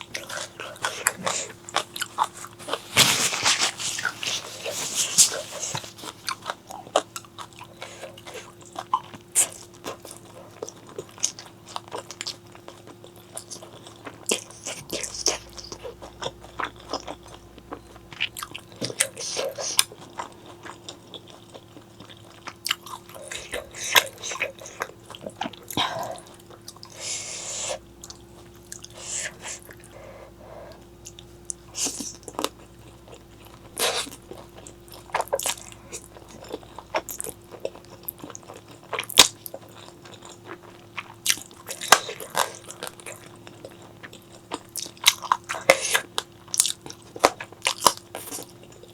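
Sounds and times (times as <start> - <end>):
crunchy chewing: 0.0 - 48.9
faint steady hum: 0.0 - 48.9.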